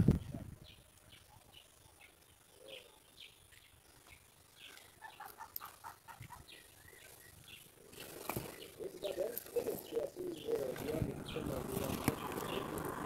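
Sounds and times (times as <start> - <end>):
faint bird chirps: 0.2 - 12.8.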